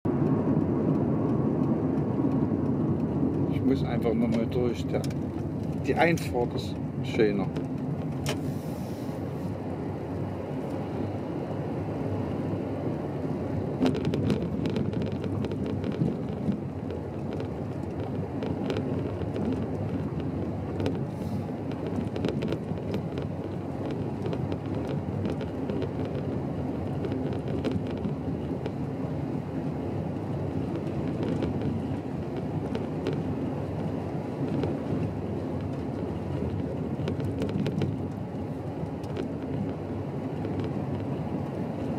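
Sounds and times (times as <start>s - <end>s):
car engine and tyre rumble: 0.0s - 41.9s
gravel clicks and ticks: 0.1s - 8.3s, 13.7s - 41.9s.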